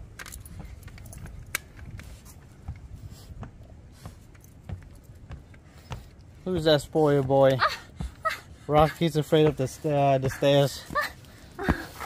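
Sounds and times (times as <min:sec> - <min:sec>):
footsteps on wooden stairs: 0:00.3 - 0:12.0.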